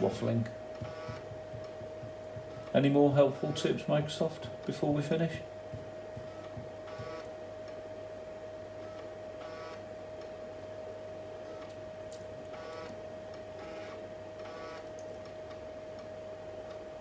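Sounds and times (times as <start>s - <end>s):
floppy drive head buzzing: 0.0s - 17.0s
low machine hum: 0.0s - 17.0s.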